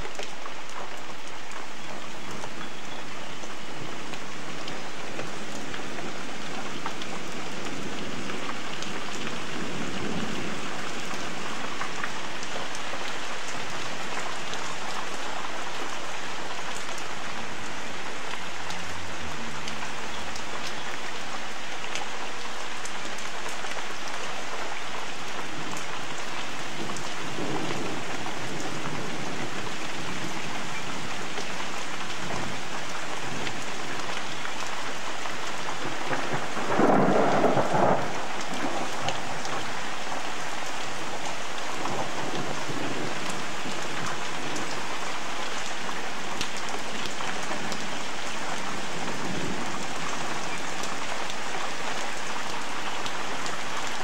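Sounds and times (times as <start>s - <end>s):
heavy rain spattering on puddles: 0.0s - 54.0s.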